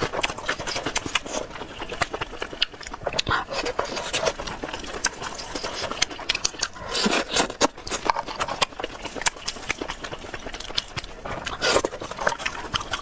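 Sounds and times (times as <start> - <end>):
wet mouth clicks and smacks: 0.0 - 13.0.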